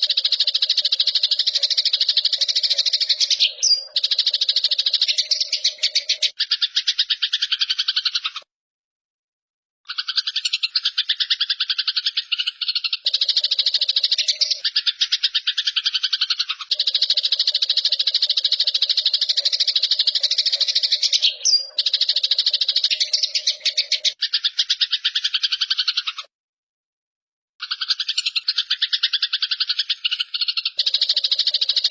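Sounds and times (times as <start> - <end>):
sparrows chattering harshly: 0.0 - 8.5, 9.9 - 26.3, 27.6 - 31.9.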